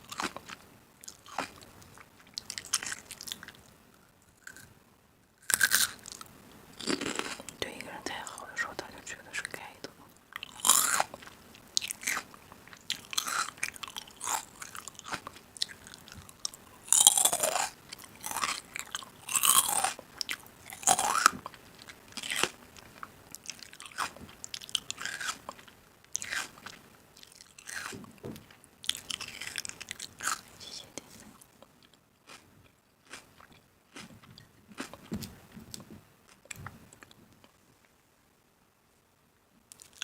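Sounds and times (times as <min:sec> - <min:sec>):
person chewing crunchy food: 0:00.0 - 0:03.7, 0:04.3 - 0:04.7, 0:05.4 - 0:07.6, 0:10.3 - 0:37.6, 0:39.7 - 0:40.0.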